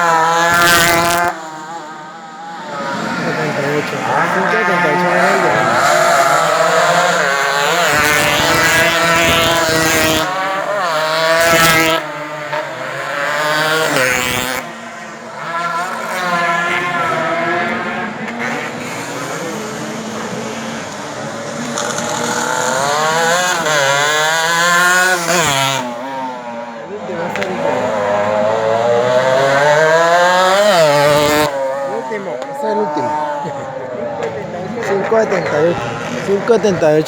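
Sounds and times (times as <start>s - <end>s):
racing motorcycle engines revving: 0.0s - 37.0s.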